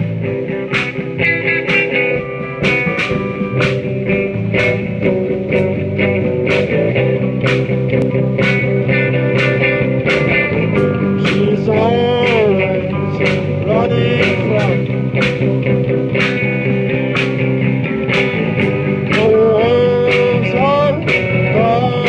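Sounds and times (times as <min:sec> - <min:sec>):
drum and cymbal hits: 0:00.0 - 0:22.0
live rock band playing: 0:00.0 - 0:22.0.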